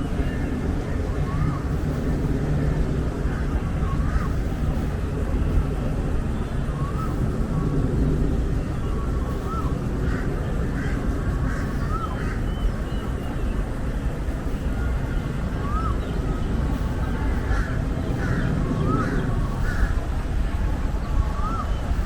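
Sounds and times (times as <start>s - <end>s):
birds calling: 0.0s - 22.0s
low city rumble: 0.0s - 22.0s.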